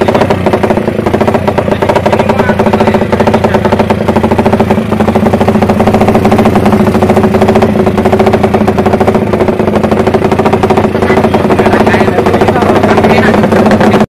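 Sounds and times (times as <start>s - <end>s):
motorcycle engine at held revs: 0.0s - 14.0s.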